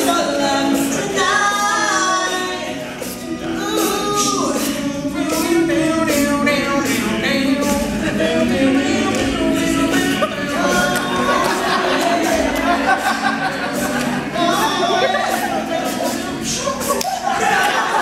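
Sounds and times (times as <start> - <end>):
male a cappella group singing: 0.0 - 18.0.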